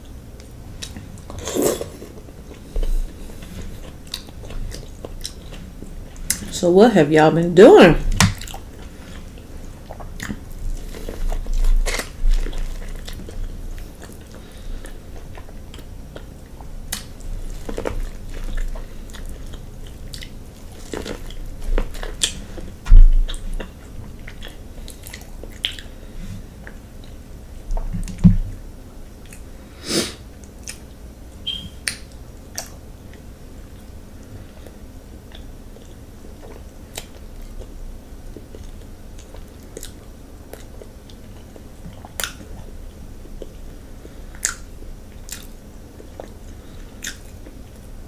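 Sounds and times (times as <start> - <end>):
person chewing and smacking: 0.0 - 6.5, 8.1 - 29.5, 30.4 - 47.9.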